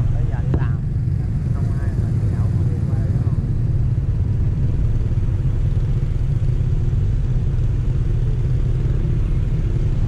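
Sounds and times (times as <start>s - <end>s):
moving vehicle rumble: 0.0s - 10.0s.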